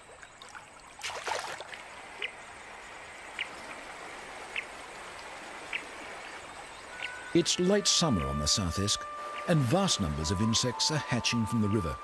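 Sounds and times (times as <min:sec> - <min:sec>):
river water running: 0:00.0 - 0:12.0.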